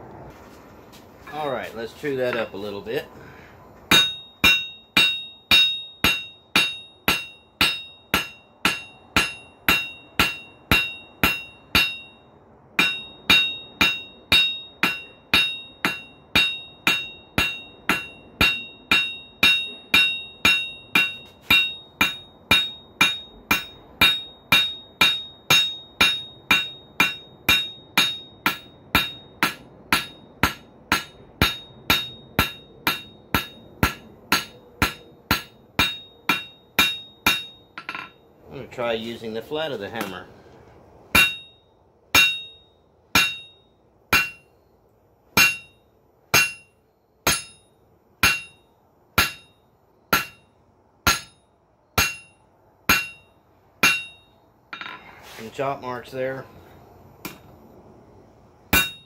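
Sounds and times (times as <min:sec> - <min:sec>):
hammer ringing on anvil: 0:02.3 - 0:02.8, 0:03.9 - 0:38.2, 0:41.1 - 0:44.5, 0:45.4 - 0:55.1, 0:58.7 - 0:59.0.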